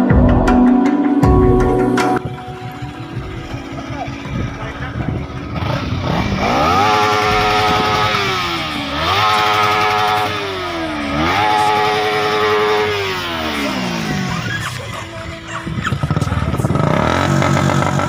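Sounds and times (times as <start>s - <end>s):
motorcycle engine revving: 2.2s - 18.0s.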